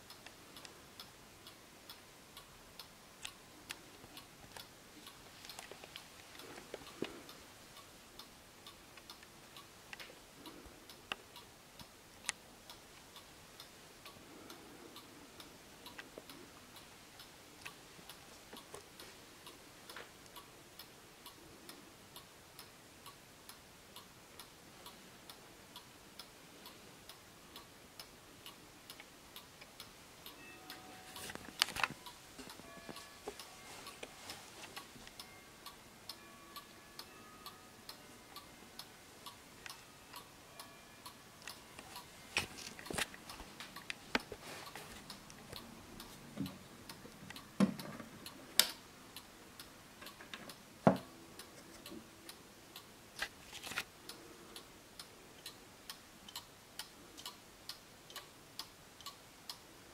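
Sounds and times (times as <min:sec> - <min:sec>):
pendulum wall clock ticking: 0:00.0 - 0:59.9.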